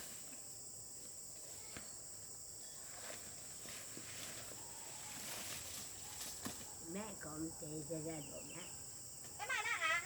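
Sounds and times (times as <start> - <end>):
insects chorus: 0.0 - 10.0.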